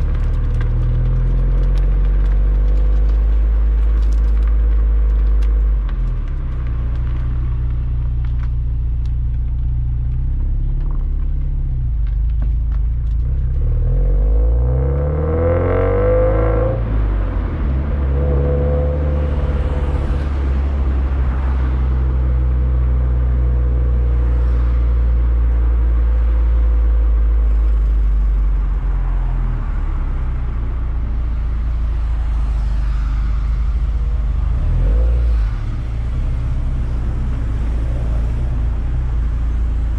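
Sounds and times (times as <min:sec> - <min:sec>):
car exhaust low drone: 0:00.0 - 0:39.9.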